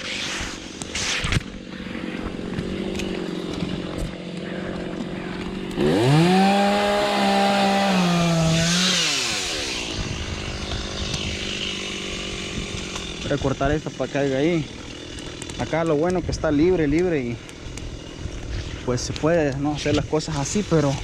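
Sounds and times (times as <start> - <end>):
chainsaw revving: 0.2 - 21.0.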